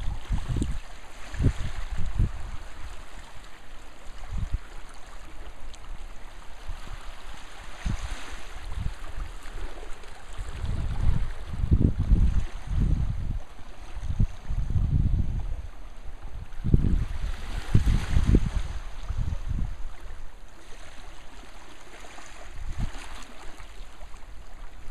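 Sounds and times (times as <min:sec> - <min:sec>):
wind buffeting microphone: 0:00.0 - 0:21.1, 0:22.0 - 0:24.9
small waves lapping among rocks: 0:00.0 - 0:24.9.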